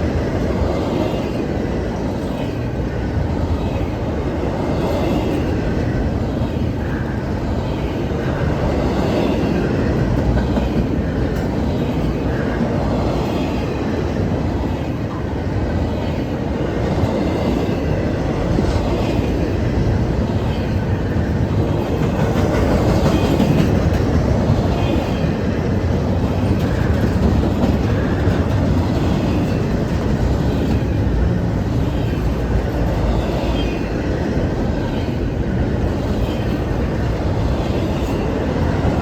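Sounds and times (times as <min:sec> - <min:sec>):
freight train rumbling past: 0:00.0 - 0:39.0
wheels clickety-clack on rail: 0:00.0 - 0:39.0.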